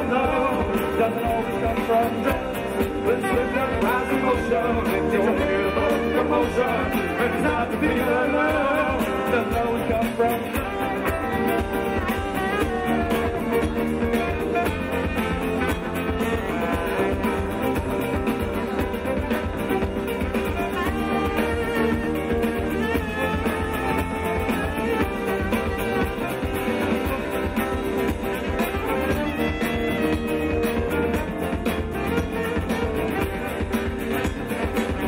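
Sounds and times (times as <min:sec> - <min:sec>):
bass: 0:00.0 - 0:35.0
bowed fiddle: 0:00.0 - 0:35.0
drums: 0:00.0 - 0:35.0
keyboard: 0:00.0 - 0:35.0
saxophone: 0:00.0 - 0:35.0
strummed acoustic guitar: 0:00.0 - 0:35.0.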